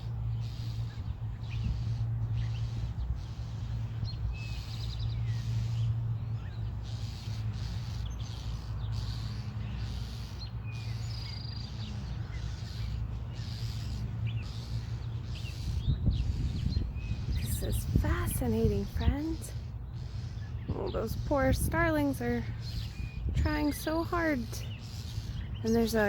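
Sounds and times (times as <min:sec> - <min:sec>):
songbirds chirping: 0:00.0 - 0:26.0
steady low hum: 0:00.0 - 0:26.0.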